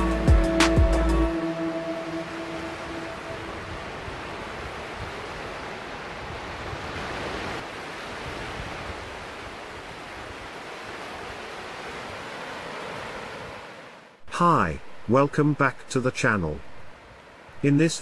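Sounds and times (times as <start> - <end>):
waves breaking on a beach: 1.3 - 18.0.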